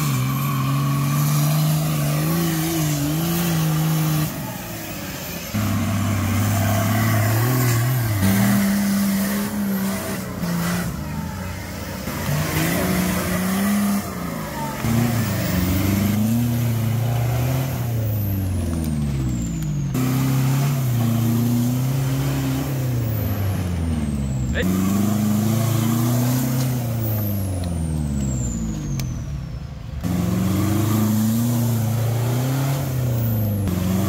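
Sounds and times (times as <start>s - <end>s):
buggy engines revving: 0.0s - 34.0s.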